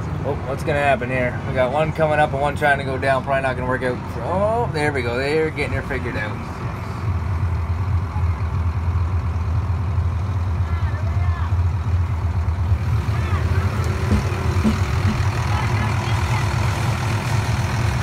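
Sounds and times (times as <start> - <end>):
diesel engine low hum: 0.0 - 18.0.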